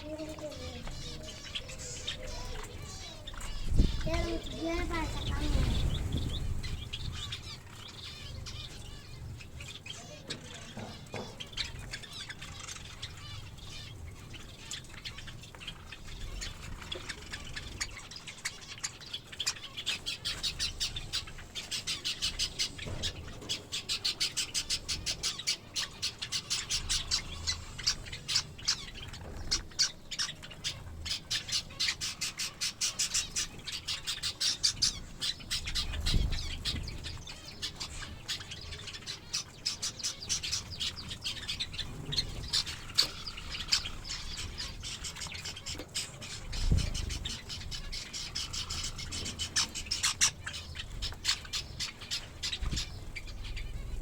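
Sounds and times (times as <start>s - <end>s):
finches chirping and squawking: 0.0s - 54.0s.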